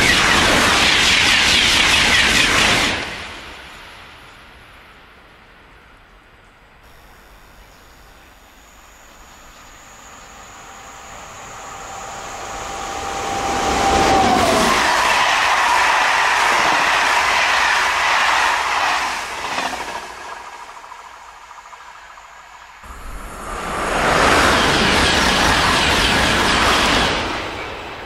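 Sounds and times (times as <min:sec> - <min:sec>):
passenger train passing at speed: 0:00.0 - 0:28.0.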